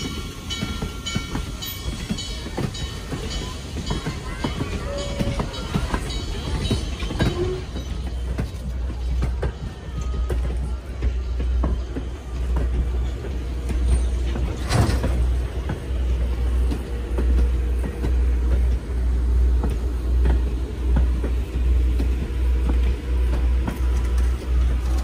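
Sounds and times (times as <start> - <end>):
passenger train rumbling past: 0.0 - 25.0
train wheels clicking on track: 0.0 - 25.0.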